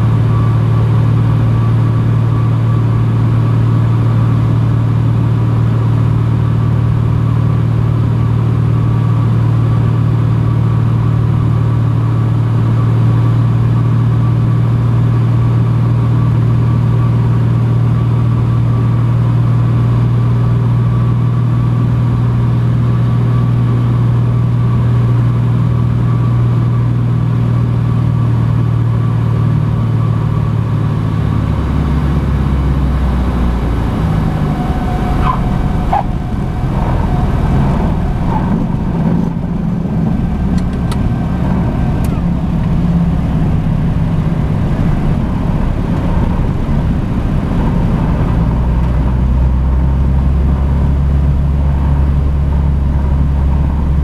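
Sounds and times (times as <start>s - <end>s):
turboprop engine drone: 0.0s - 54.0s.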